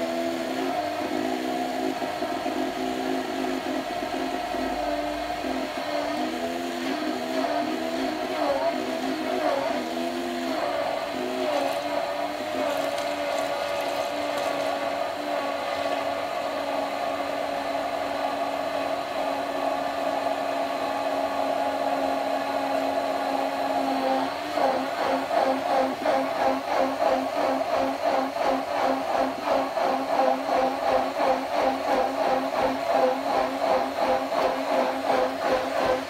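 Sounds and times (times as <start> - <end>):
stick blender running: 0.0 - 36.0.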